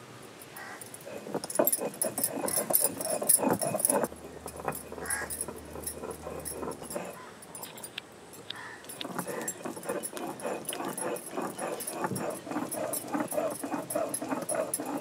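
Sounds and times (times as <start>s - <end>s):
stone roller rubbing: 0.6s - 15.0s
stone roller crushing on stone: 0.9s - 8.0s, 8.8s - 15.0s.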